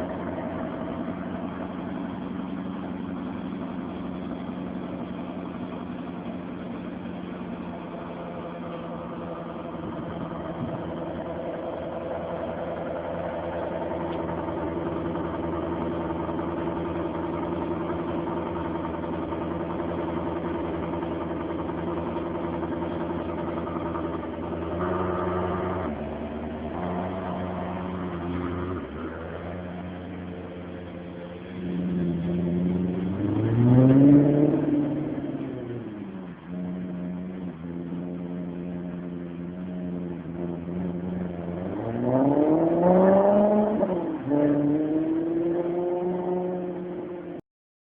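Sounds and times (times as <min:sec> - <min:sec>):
car engine and exhaust running: 0:00.0 - 0:47.4.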